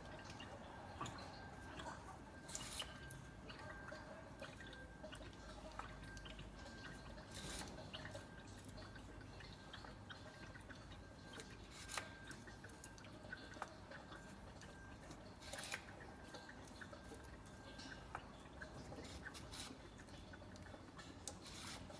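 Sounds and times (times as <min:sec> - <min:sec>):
faint drips and ticks: 0:00.0 - 0:21.9.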